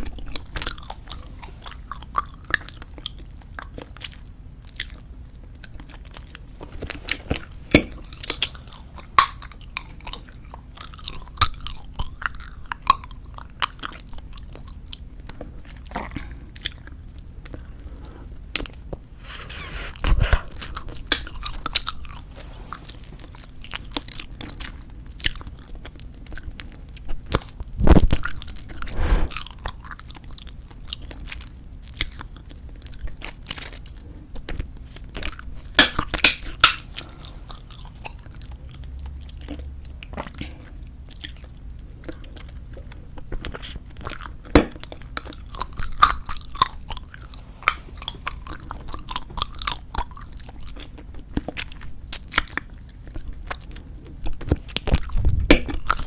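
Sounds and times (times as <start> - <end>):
mouth chewing bubblegum: 0.0 - 56.0.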